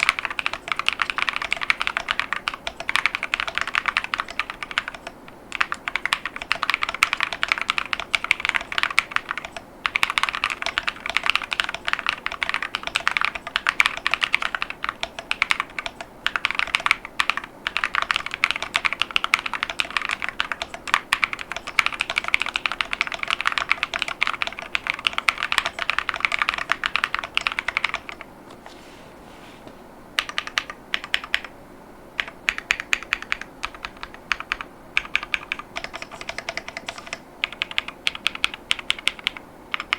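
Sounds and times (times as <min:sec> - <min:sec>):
mechanical keyboard typing: 0:00.0 - 0:28.3, 0:30.2 - 0:31.5, 0:32.2 - 0:39.9.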